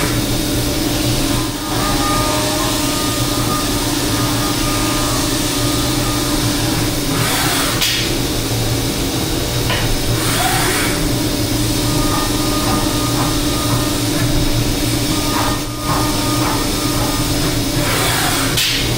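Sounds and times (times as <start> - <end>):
machining centre humming: 0.0 - 18.9.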